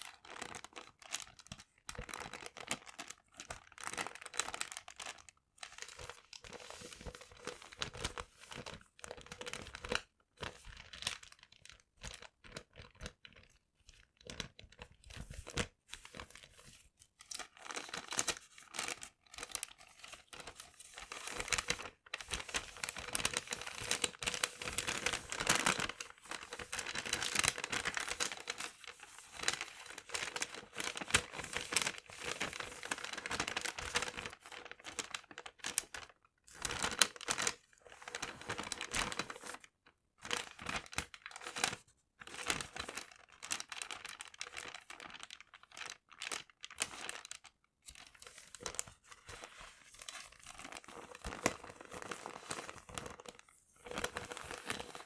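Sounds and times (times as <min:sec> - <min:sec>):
paper crinkling and rustling: 0:00.1 - 0:55.0.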